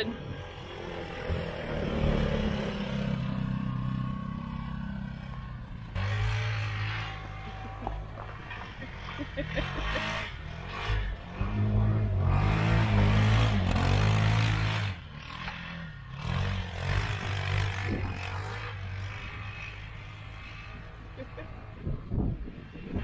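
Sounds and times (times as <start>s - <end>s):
engine revving: 0.0s - 23.0s
tyres spinning in snow: 0.3s - 23.0s.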